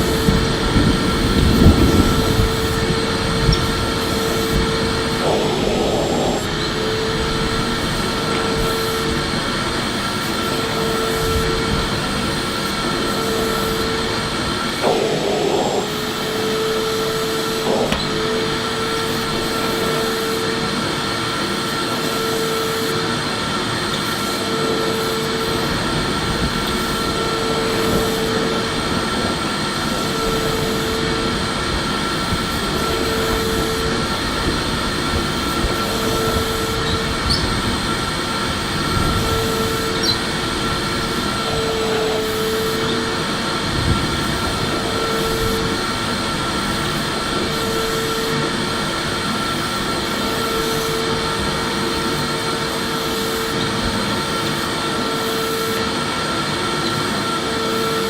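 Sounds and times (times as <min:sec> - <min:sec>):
pulsing hum: 0:00.0 - 0:54.0
vacuum cleaner running: 0:00.0 - 0:58.0.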